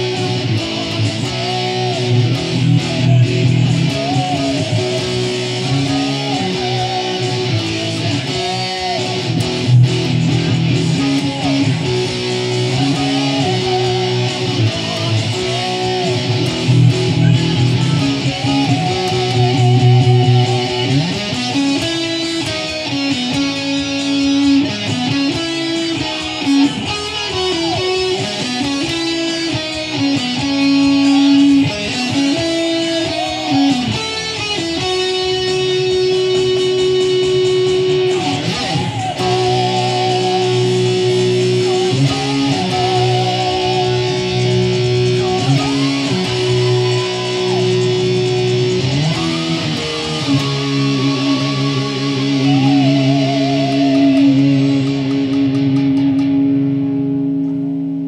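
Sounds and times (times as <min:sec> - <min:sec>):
electric guitar solo: 0:00.0 - 0:58.0.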